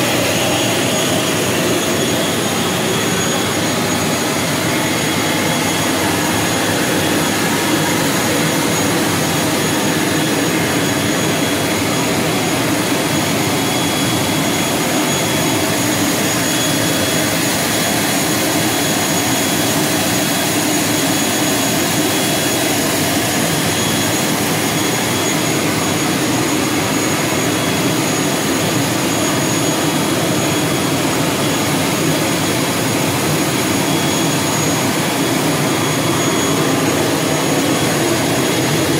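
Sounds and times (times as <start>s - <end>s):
high-pitched engine whine: 0.0s - 38.9s
turboprop engine running: 0.0s - 38.9s.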